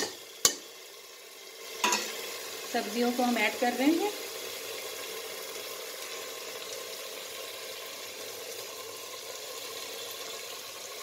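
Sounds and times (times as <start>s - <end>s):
food sizzling and bubbling in oil: 0.0s - 11.0s.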